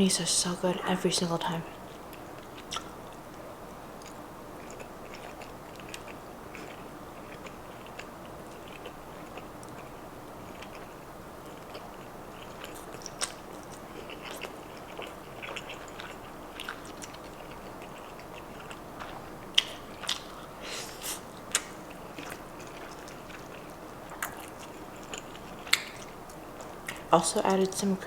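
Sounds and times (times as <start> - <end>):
person chewing and biting: 4.0 - 27.1.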